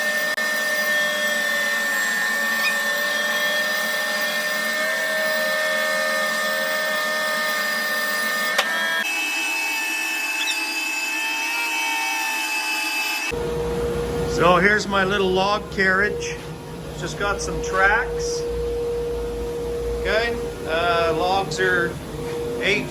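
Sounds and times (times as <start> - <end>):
bandsaw whining: 0.0 - 22.9.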